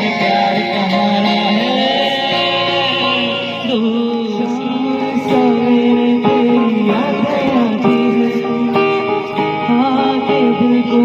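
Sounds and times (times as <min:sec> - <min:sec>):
man singing: 0:00.0 - 0:11.0
strummed acoustic guitar: 0:00.0 - 0:11.0.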